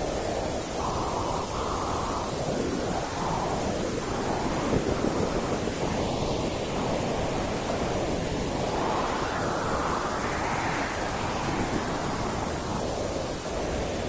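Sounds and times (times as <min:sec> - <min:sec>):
steady white noise hiss: 0:00.0 - 0:14.0.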